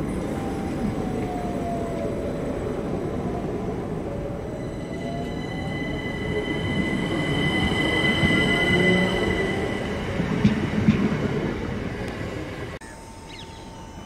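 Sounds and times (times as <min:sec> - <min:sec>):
high train whine: 0:00.0 - 0:14.0
train wheel-on-rail rumble: 0:00.0 - 0:14.0.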